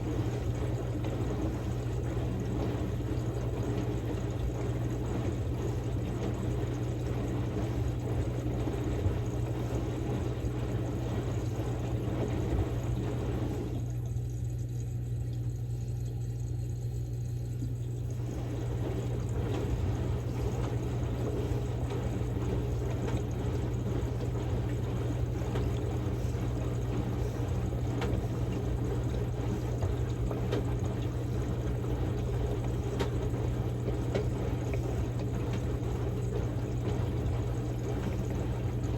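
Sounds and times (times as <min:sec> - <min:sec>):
low motor hum: 0:00.0 - 0:38.9
water splashing in washing machine: 0:00.0 - 0:38.9.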